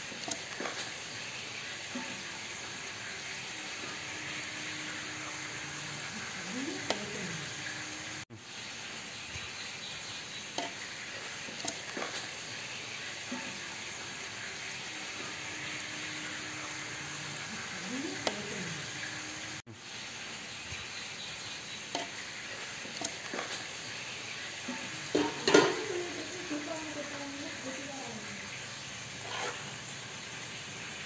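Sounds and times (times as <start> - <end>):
sizzling hiss with crackles: 0.0 - 31.0.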